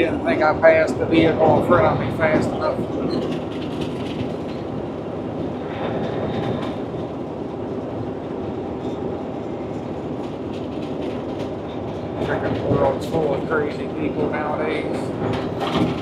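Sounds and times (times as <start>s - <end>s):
road and tyre noise: 0.0s - 16.0s.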